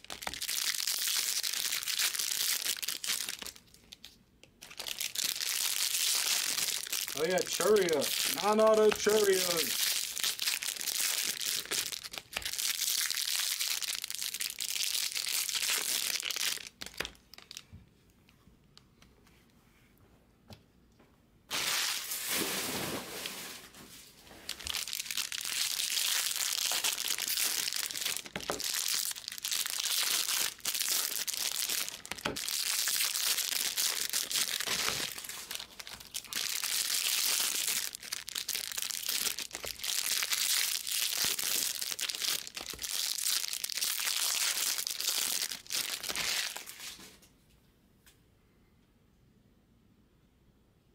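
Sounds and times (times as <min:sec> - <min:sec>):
foil wrappers crinkling and tearing: 0:00.0 - 0:17.6, 0:21.5 - 0:23.8, 0:24.4 - 0:47.1.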